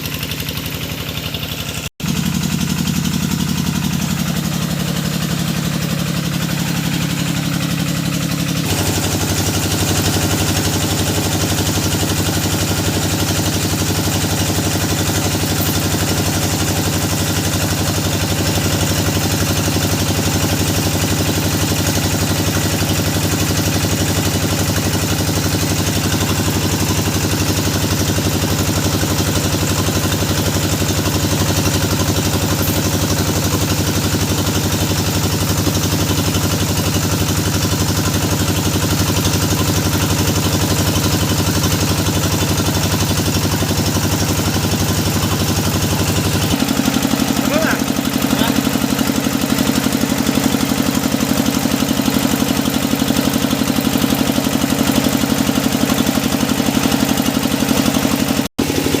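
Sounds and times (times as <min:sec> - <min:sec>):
drilling rig engine running: 0:00.0 - 0:59.0.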